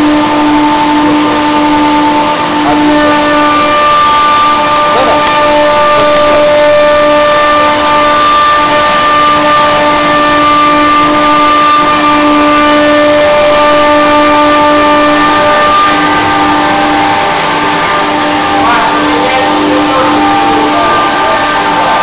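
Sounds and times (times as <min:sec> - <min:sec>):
milling machine whine and hiss: 0:00.0 - 0:22.0.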